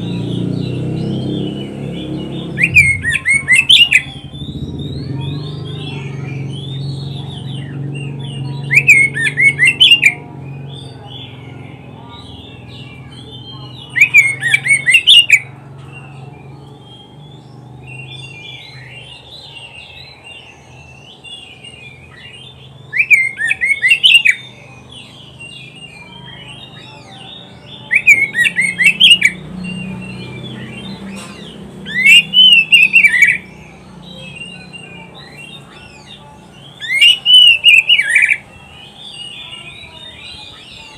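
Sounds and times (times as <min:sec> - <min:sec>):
bird bursts of sharp notes: 0:00.0 - 0:40.9
songbird warbling chatter: 0:00.0 - 0:40.9.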